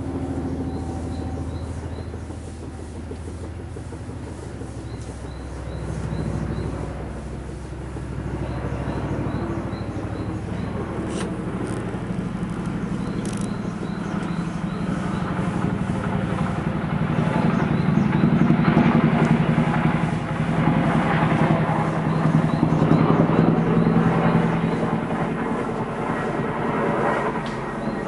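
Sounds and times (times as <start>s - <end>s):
helicopter rotor beat: 0.0s - 28.0s.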